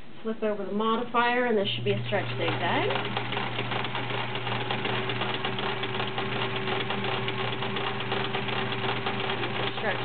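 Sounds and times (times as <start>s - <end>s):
sewing machine running: 1.8s - 10.0s.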